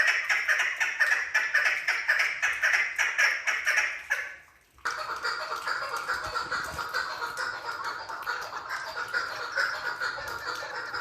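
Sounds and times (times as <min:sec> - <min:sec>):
partridge clucking call: 0:00.0 - 0:11.0.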